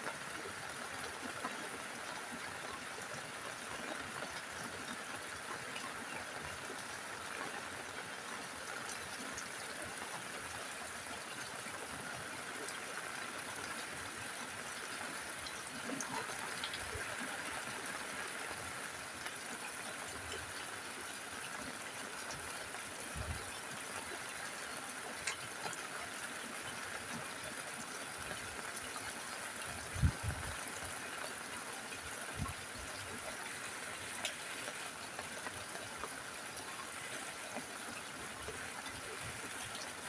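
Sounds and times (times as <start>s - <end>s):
rain on a rooftop: 0.0s - 40.0s.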